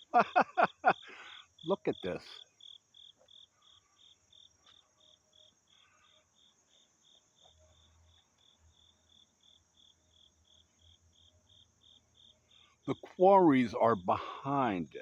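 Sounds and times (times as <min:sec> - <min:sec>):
high insect drone: 0:00.1 - 0:15.0
insect chirping in pulses: 0:00.1 - 0:15.0.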